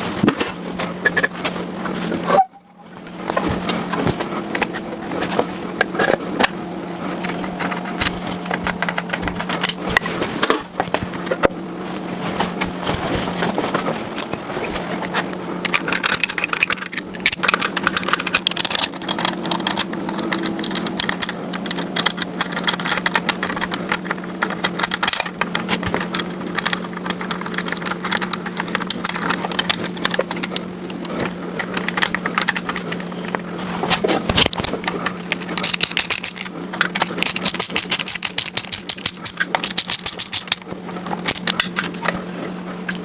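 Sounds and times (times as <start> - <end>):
hand tools tapping on metal: 0.0 - 2.2, 3.0 - 43.0
steady low hum: 0.0 - 43.0.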